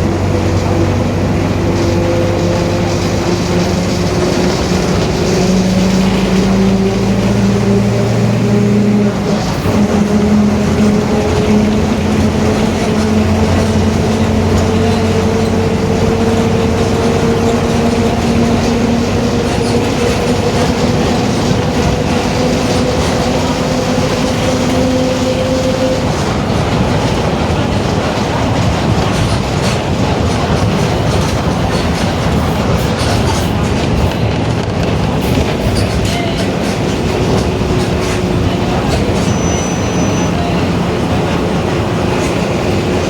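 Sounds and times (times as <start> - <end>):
bus differential whine: 0.0 - 43.0
bus running noise and rattle: 0.0 - 43.0.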